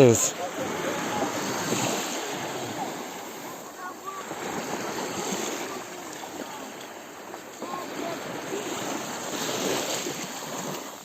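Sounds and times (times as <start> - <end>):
sea water sloshing and lapping: 0.0 - 11.0.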